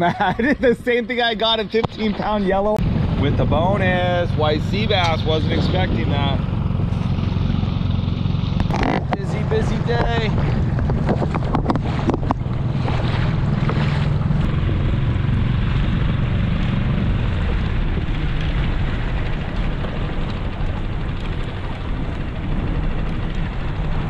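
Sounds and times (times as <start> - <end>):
outboard motor running: 0.0 - 24.0
water rushing along hull: 0.0 - 24.0
wind buffeting microphone: 0.0 - 24.0.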